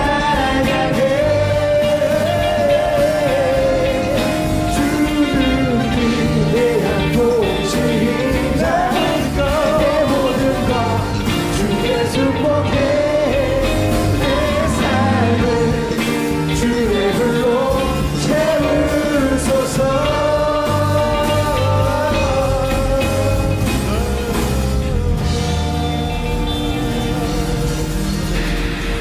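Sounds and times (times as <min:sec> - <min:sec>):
person singing: 0:00.0 - 0:29.0
worship band playing rock song: 0:00.0 - 0:29.0.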